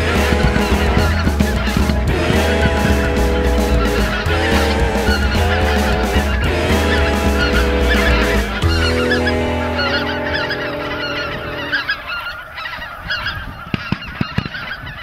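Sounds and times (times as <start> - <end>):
held low chord: 0.0 - 12.0
geese calling: 0.0 - 15.0.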